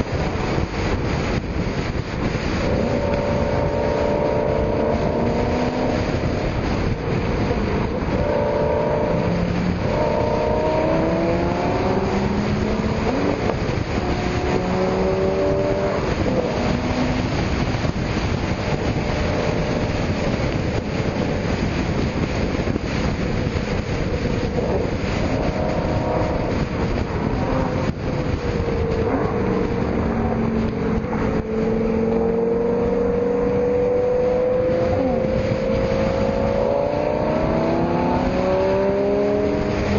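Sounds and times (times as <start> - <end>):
constant rushing noise: 0.0 - 39.9
sports car engines revving: 0.0 - 39.9.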